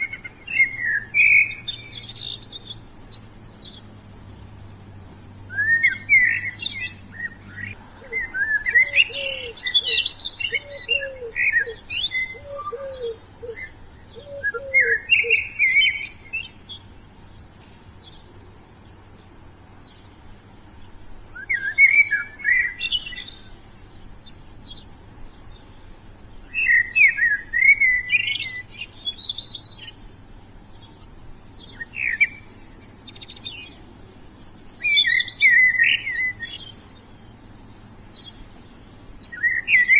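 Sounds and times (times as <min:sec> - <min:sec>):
lower bird call: 0:00.0 - 0:19.2, 0:19.8 - 0:39.9
songbird twittering: 0:00.0 - 0:39.9.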